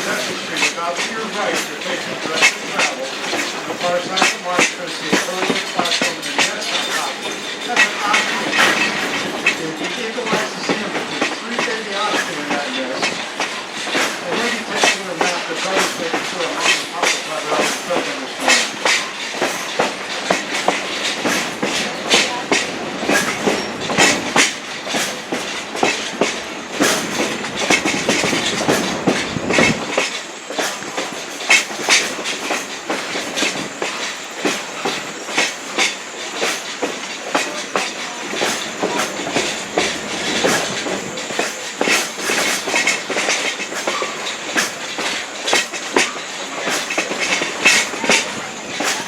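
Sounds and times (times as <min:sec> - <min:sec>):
train rolling noise: 0:00.0 - 0:49.0
train wheels clacking on rail joints: 0:00.0 - 0:49.0.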